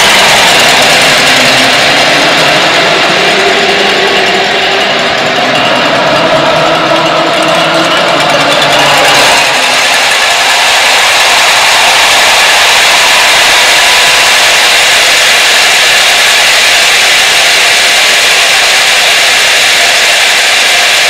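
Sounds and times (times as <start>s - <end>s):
stadium crowd cheering: 0.0s - 21.0s.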